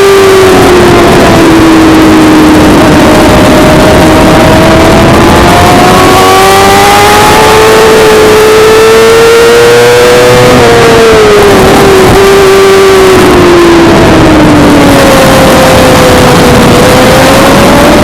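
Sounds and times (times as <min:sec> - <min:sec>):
heavy wind rush: 0:00.0 - 0:18.0
motorcycle engine pulling hard: 0:00.0 - 0:18.0.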